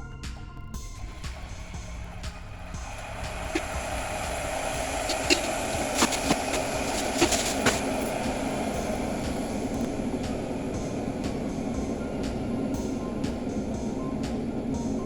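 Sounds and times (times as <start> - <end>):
electric kettle heating water: 0.7 - 15.0.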